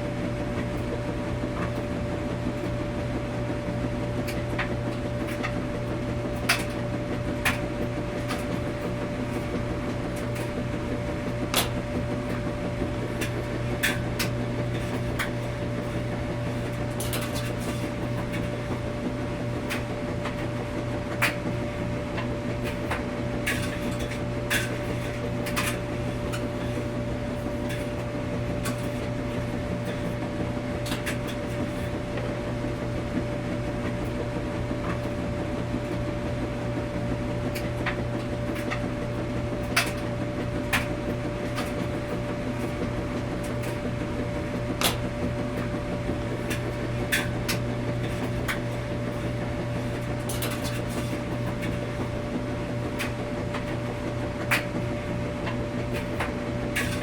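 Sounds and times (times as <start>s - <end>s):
washing machine humming: 0.0s - 57.0s.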